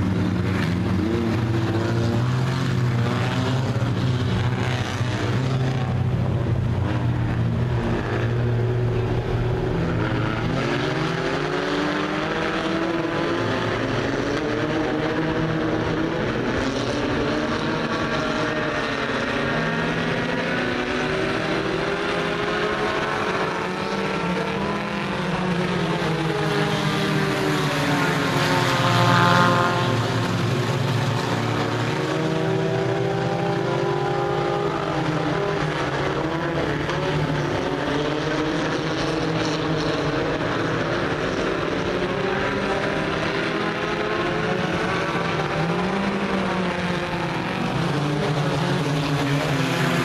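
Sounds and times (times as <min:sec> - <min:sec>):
race car engines: 0:00.0 - 0:50.0.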